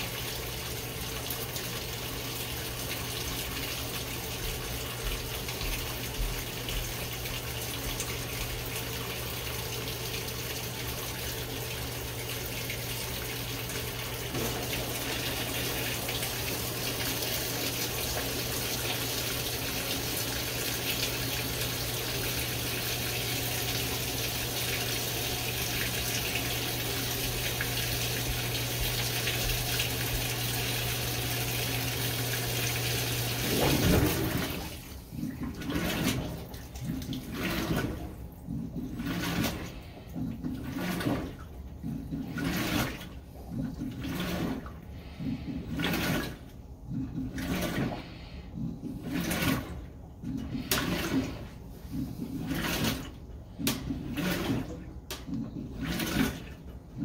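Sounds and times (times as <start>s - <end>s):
washing machine low hum: 0.0s - 57.0s
water streaming in washer tub: 0.0s - 57.0s.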